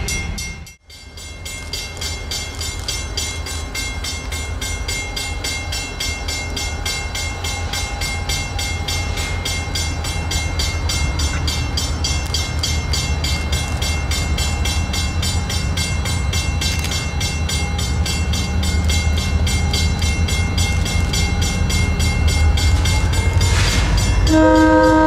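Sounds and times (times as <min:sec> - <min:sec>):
freight train rumbling past: 0:00.0 - 0:25.0
train wheels clicking: 0:00.0 - 0:25.0.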